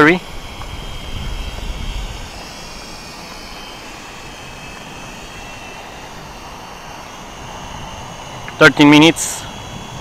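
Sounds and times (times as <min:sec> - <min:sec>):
quadcopter motors buzzing: 0:00.0 - 0:10.0.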